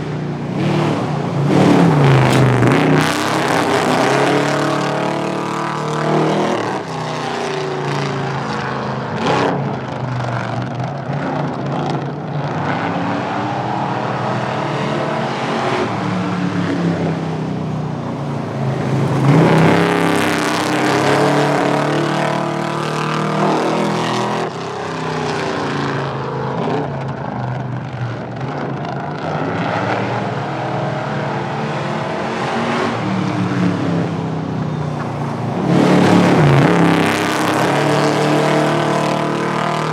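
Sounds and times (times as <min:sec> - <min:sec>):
cars accelerating hard: 0:00.0 - 0:39.9.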